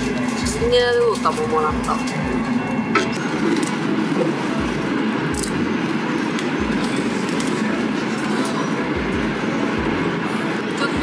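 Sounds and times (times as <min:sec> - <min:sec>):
train running noise from inside: 0:00.0 - 0:11.0.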